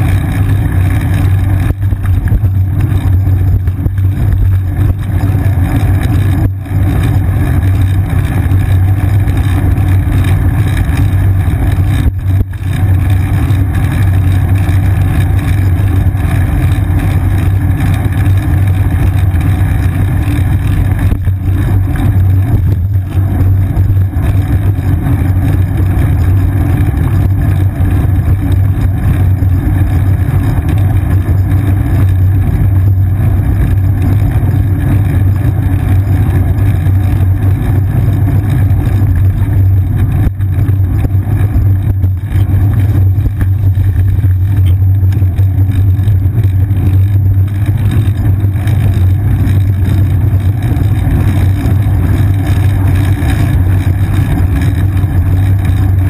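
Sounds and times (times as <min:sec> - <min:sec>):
road vibration rumble: 0:00.0 - 0:56.0
wind on camera: 0:00.0 - 0:56.0.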